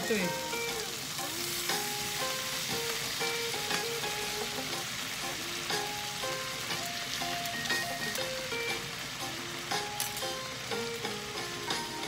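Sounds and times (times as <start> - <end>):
light background music: 0.0 - 12.0
meat sizzling in a frying pan: 0.0 - 12.0.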